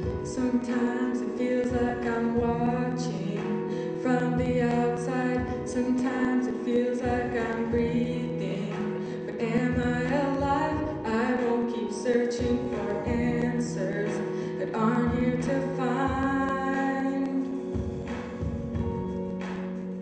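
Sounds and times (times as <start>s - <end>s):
women singing: 0.0s - 17.8s
instrumental accompaniment: 0.0s - 20.0s.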